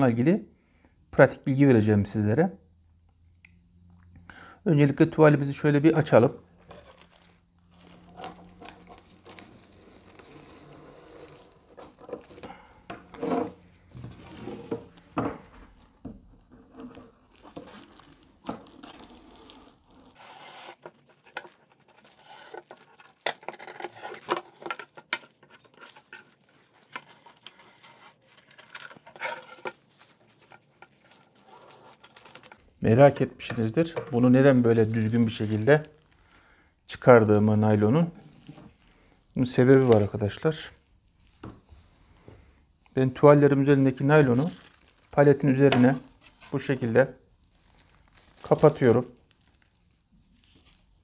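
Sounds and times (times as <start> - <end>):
plastic film crinkling: 5.9 - 41.5, 43.2 - 51.0.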